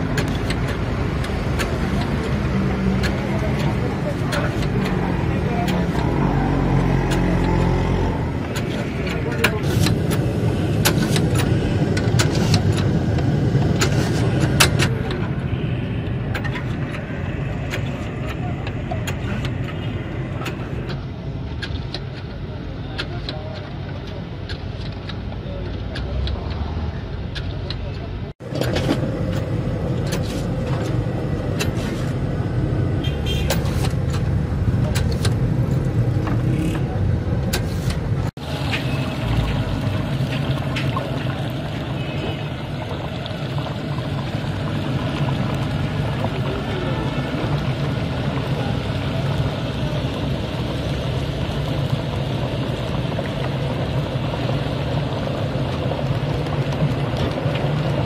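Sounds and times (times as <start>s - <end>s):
low engine rumble: 0.0s - 58.0s.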